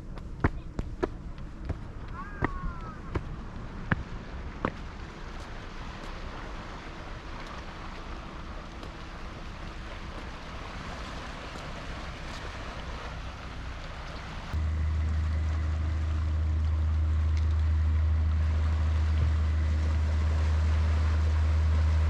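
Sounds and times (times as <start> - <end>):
low rumble: 0.0 - 22.0
water: 0.0 - 22.0
wind: 0.0 - 22.0.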